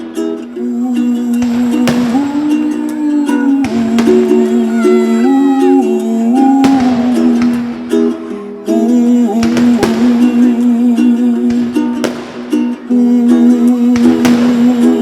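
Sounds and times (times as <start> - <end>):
plucked string instrument strumming: 0.0 - 15.0.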